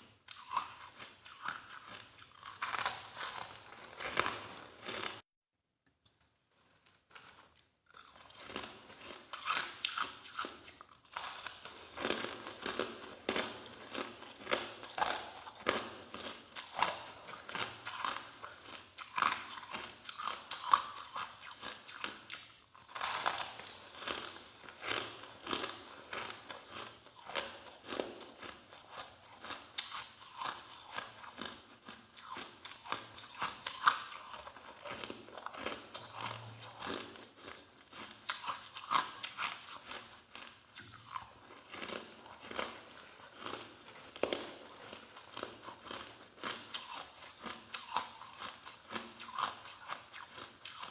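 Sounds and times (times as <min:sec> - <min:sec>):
ice being chewed: 0:00.2 - 0:05.2, 0:07.0 - 0:50.9.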